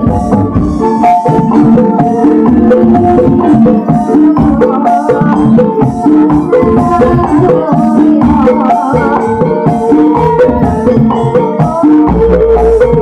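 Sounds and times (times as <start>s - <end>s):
hand drums beating: 0.0s - 13.0s
melodic instruments: 0.0s - 13.0s.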